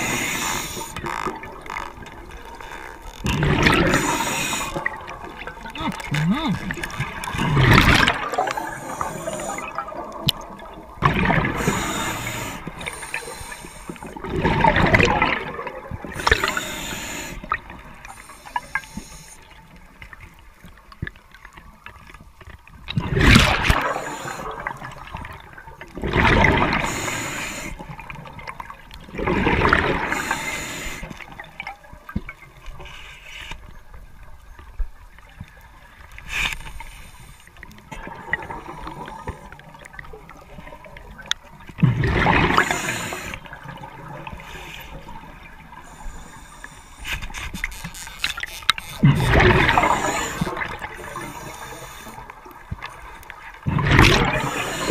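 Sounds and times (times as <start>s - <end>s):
underwater air bubbling: 0.0s - 21.6s, 22.8s - 32.9s, 34.9s - 54.9s
water noise: 0.0s - 54.9s.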